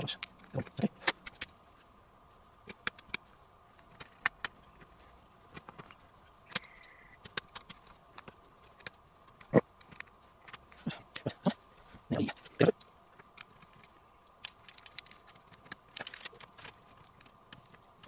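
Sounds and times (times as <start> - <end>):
small plastic parts clicking: 0.2 - 1.6, 2.6 - 3.2, 3.8 - 11.3, 12.3 - 18.0.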